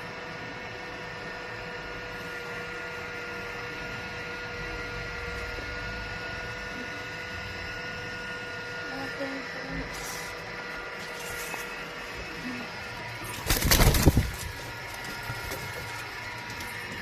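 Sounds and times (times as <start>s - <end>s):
steady hum with tones: 0.0s - 17.0s.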